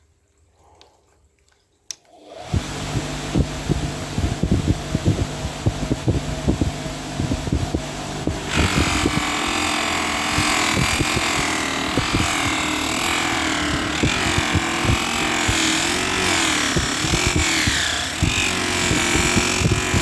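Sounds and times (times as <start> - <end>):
buffing machine whining: 2.1 - 20.0
fan-like hiss: 2.1 - 20.0.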